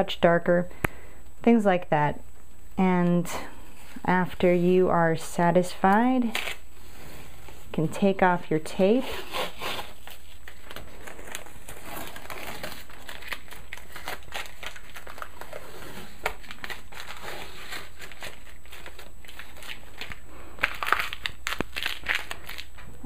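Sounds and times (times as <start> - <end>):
tape and paper crackling rustle: 3.8 - 23.0.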